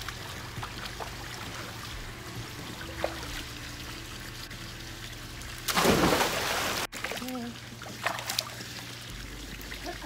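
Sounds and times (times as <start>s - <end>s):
pool water trickling and lapping: 0.0s - 10.0s.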